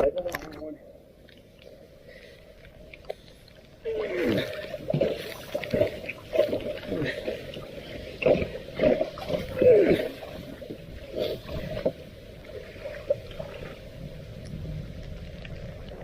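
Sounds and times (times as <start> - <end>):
water gurgling: 2.8 - 16.0.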